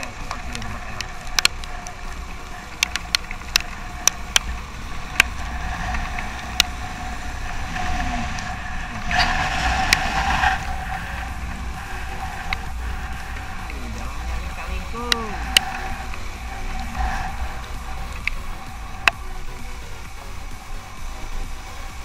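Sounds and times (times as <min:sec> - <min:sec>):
motorcycle engine running: 0:00.0 - 0:22.0
rush of noise: 0:00.0 - 0:22.0
sharp ticks: 0:00.0 - 0:22.0
wind rumble on microphone: 0:00.0 - 0:22.0.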